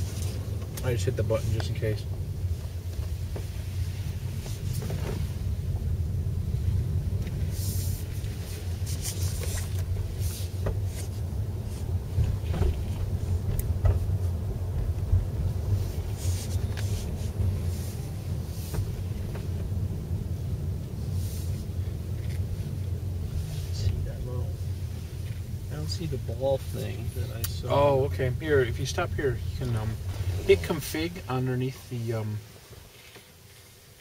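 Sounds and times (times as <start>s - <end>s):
tyre and road noise: 0.0s - 34.0s.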